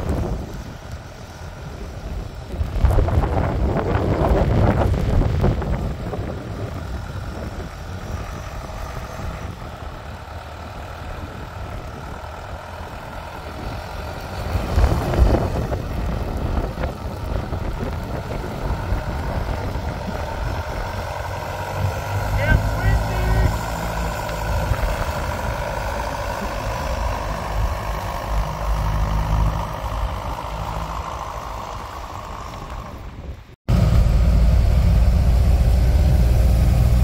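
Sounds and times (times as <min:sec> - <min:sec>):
tracked snow vehicle engine: 0:00.0 - 0:37.0.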